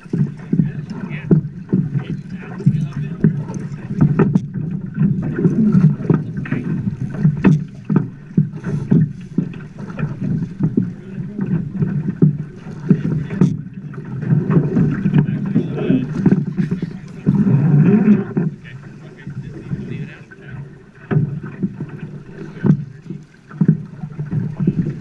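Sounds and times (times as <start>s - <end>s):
water slapping against boat: 0.0s - 25.0s.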